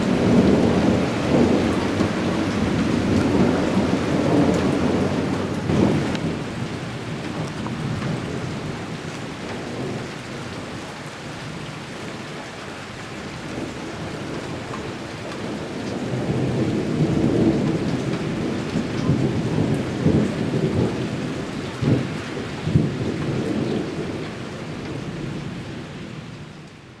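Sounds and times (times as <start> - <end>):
thunder claps: 0.0 - 10.8, 13.3 - 26.1
heavy rain: 0.0 - 27.0
thunder rumbling: 0.0 - 27.0.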